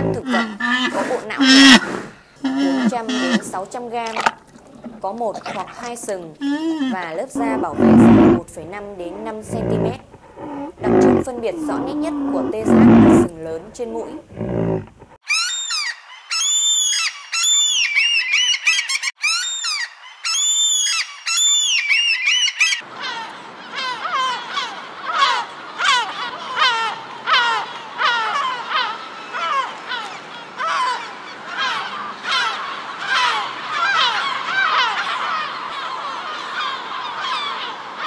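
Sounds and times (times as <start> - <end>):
gulls calling: 0.0 - 38.0.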